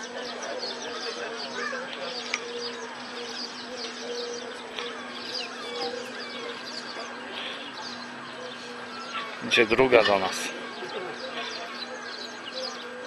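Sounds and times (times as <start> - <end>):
steady buzzing hum: 0.0 - 13.0.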